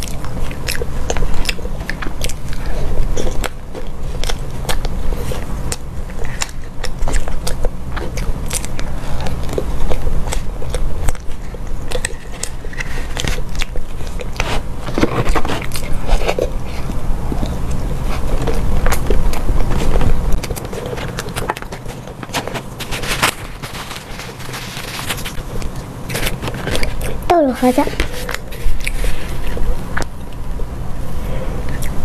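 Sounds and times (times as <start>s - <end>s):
mouth chewing sounds: 0.0s - 32.0s.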